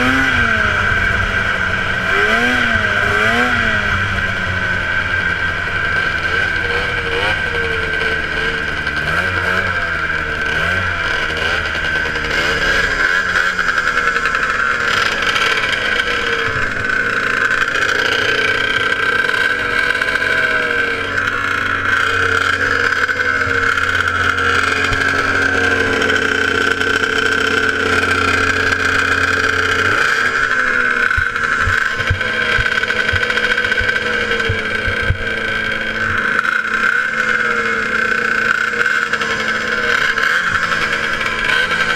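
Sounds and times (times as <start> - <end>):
snowmobile engines running: 0.0 - 41.9
steady high whine: 0.0 - 41.9.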